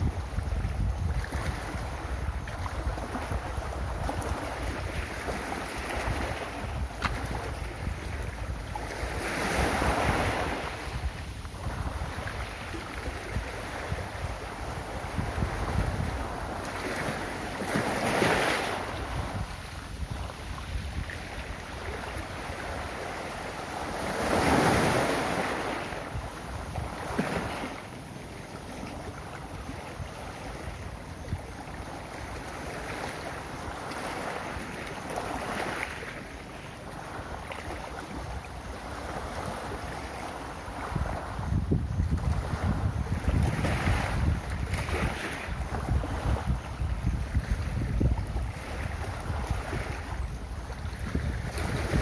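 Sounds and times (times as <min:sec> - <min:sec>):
ocean waves breaking on beach: 0:00.0 - 0:52.0.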